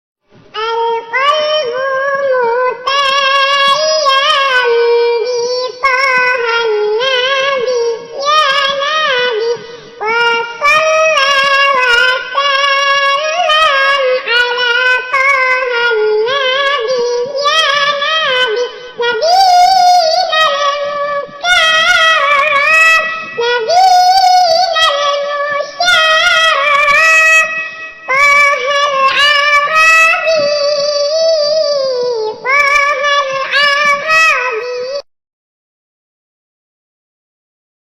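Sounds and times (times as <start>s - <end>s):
high-pitched voice singing: 0.5s - 35.1s.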